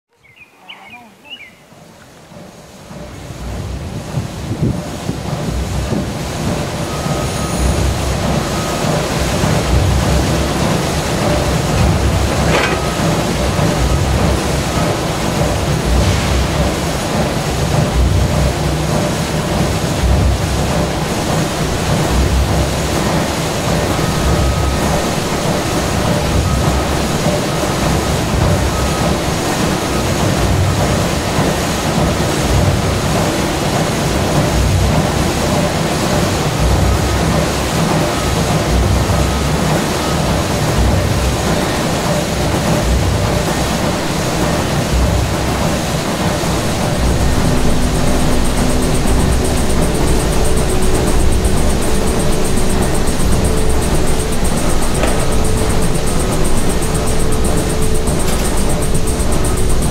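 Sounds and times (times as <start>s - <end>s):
low rumbling noise: 0.2s - 59.9s.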